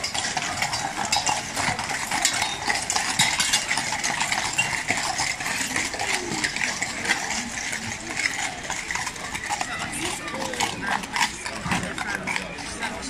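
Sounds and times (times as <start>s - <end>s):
horse hooves clip-clopping on stone: 0.0s - 13.0s
metallic clinking of bits and chains: 0.0s - 13.0s.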